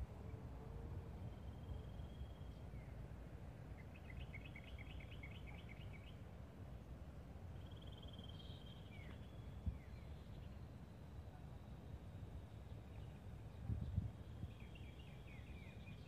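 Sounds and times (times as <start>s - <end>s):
low steady background rumble: 0.0s - 16.0s.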